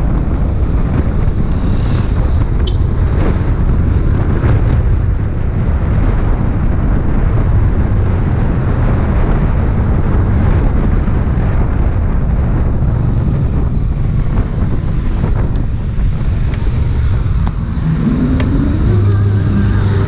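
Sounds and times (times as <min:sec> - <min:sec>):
wind rush over microphone: 0:00.0 - 0:20.0.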